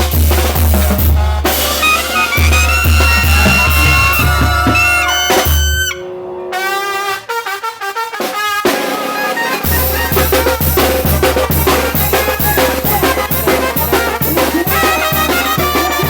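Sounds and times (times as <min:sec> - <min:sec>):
drums: 0:00.0 - 0:06.0, 0:07.2 - 0:16.0
brass band playing: 0:00.0 - 0:16.0
horns playing: 0:00.8 - 0:16.0.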